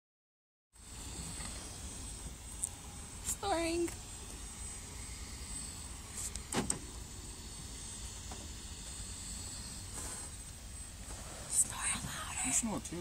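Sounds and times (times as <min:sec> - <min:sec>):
thin high whine: 0:00.8 - 0:13.0.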